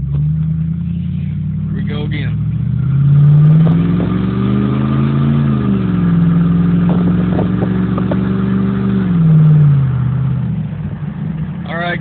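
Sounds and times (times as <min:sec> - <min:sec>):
loud engine exhaust accelerating: 0:00.0 - 0:12.0.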